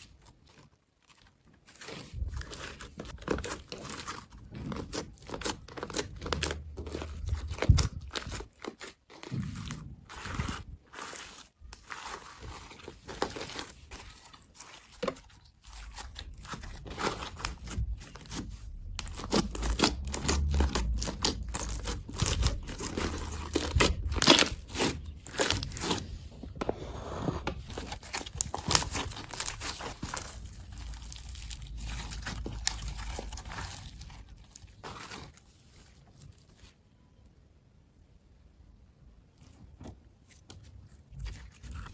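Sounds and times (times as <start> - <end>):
slime crackling and popping: 0.0 - 26.2, 27.8 - 35.6.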